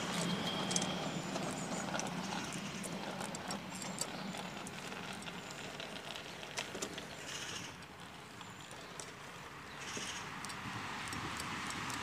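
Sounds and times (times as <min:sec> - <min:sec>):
distant traffic hum: 0:00.0 - 0:12.0
light irregular ticks: 0:00.1 - 0:12.0.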